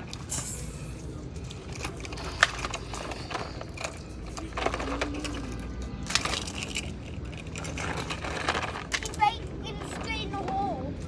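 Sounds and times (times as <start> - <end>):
rocks clattering on toy trucks: 1.4 - 10.8.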